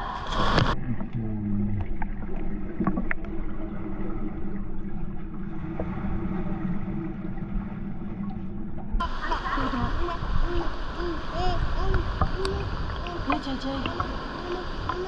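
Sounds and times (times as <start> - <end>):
low hum: 0.0 - 15.0
muffled underwater rumble: 0.0 - 15.0.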